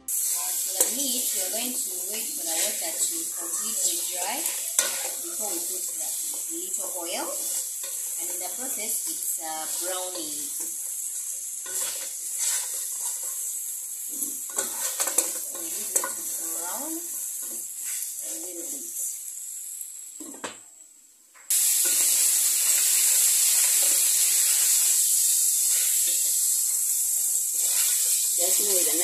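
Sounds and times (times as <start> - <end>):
meat sizzling in a pot: 0.0 - 20.9, 21.5 - 29.0.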